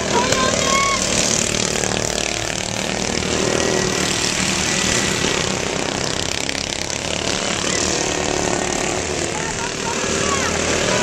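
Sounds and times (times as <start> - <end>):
lawn mower engines passing: 0.0 - 11.0.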